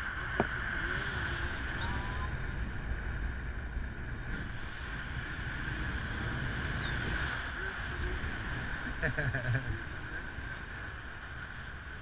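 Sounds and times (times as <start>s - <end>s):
airflow hiss: 0.0s - 12.0s
wind buffeting microphone: 0.0s - 12.0s.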